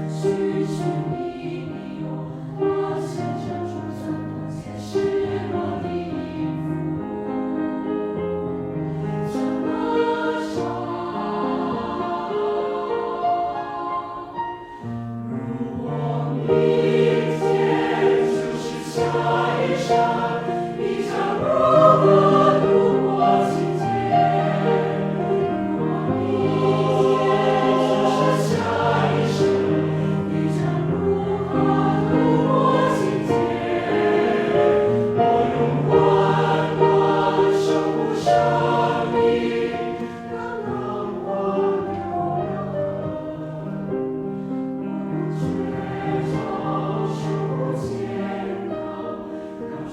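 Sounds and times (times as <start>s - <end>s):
choir singing: 0.0s - 49.9s
piano accompaniment: 0.0s - 49.9s.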